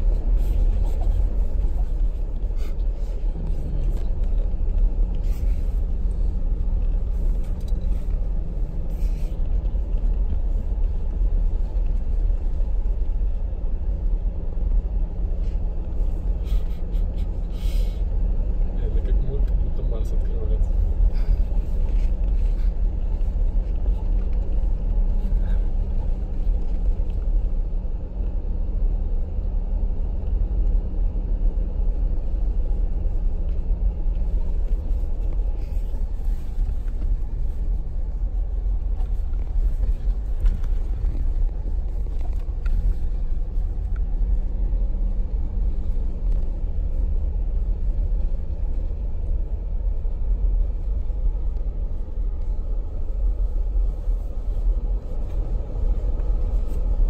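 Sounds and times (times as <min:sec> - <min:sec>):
engine and tyres rumbling: 0:00.0 - 0:57.0
faint engine hum: 0:00.0 - 0:57.0.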